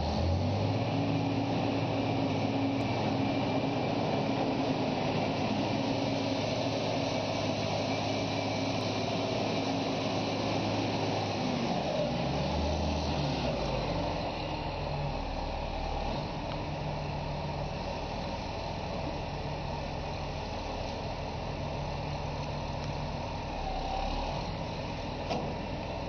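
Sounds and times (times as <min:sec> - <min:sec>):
heavy equipment engine running: 0:00.0 - 0:26.0.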